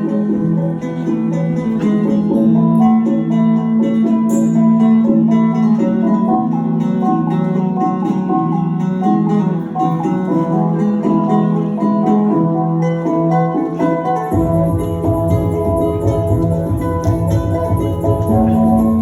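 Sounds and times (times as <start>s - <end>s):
plucked lute melody: 0.0s - 19.0s.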